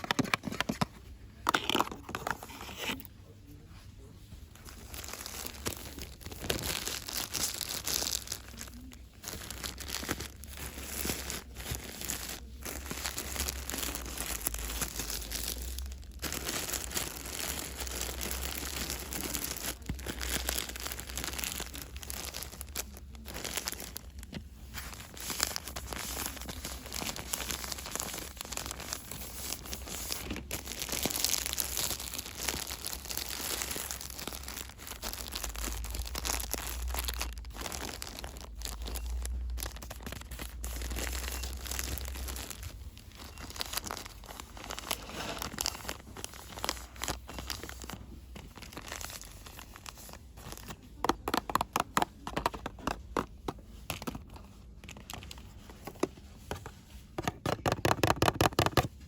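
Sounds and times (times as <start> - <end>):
packaging crinkling: 0.0 - 3.1, 4.5 - 59.0.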